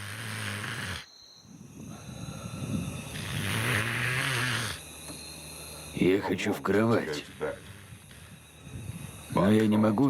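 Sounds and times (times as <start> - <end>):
man snoring: 0.0 - 1.1, 1.8 - 4.9, 5.8 - 10.0.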